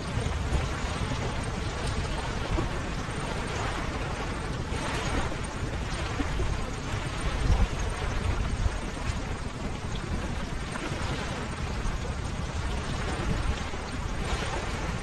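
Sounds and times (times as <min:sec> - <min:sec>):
ocean surf washing: 0:00.0 - 0:15.0
wave breaking: 0:00.0 - 0:15.0.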